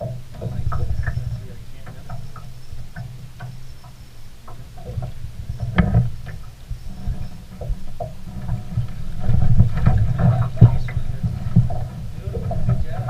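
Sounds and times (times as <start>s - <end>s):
knocks and thumps in boat: 0.0s - 13.0s.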